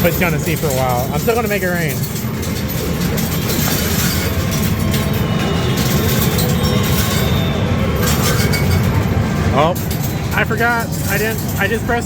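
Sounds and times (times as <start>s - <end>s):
coins clattering: 0.0s - 12.0s
low rumble of arcade din: 0.0s - 12.0s.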